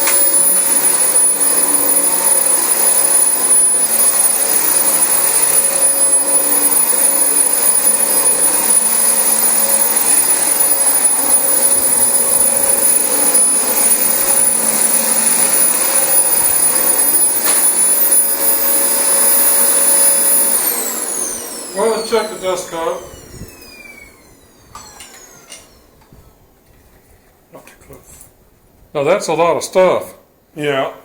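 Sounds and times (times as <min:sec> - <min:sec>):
vacuum cleaner motor whine: 0:00.0 - 0:26.6.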